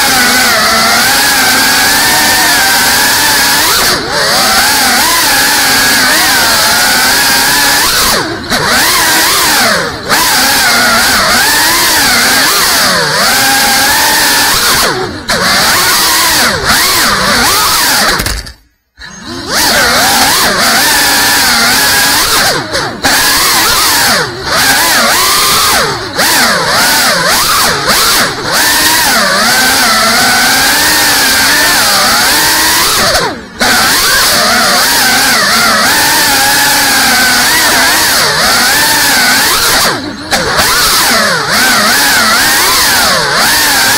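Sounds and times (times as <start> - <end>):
drone motors and propellers buzzing: 0.0 - 43.9.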